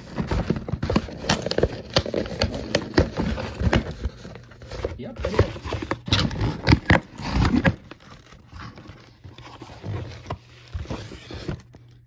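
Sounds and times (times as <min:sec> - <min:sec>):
cardboard box scraping and rustling: 0:00.0 - 0:11.8.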